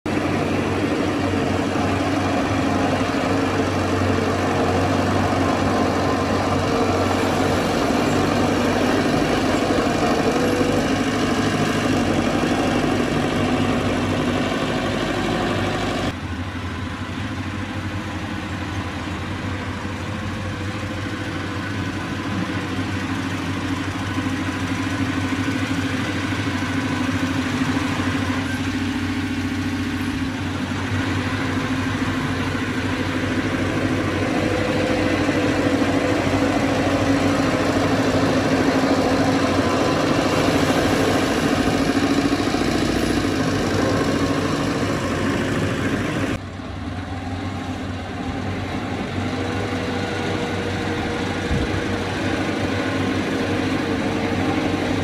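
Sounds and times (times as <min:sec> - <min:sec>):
heavy machinery diesel engine running: 0:00.0 - 0:55.0.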